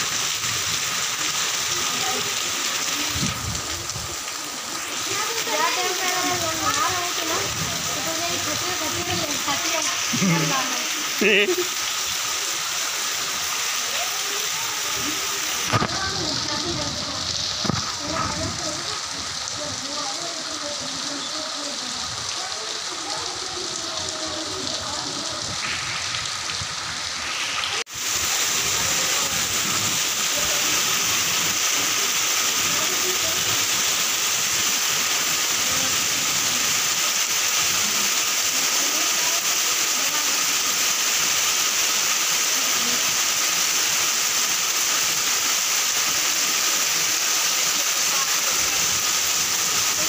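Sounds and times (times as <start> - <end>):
rain on pavement and rooftops: 0.0 - 50.0.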